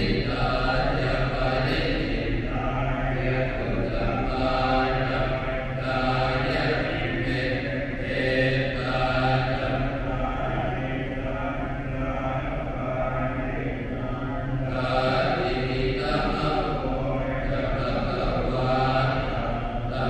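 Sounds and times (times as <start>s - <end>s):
monks chanting in monotone: 0.0s - 20.0s.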